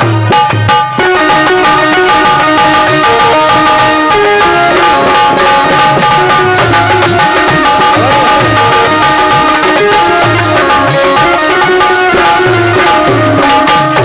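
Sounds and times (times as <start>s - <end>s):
hand drum beating: 0.0s - 14.0s
jingling percussion: 0.3s - 14.0s
held melody notes: 0.9s - 14.0s.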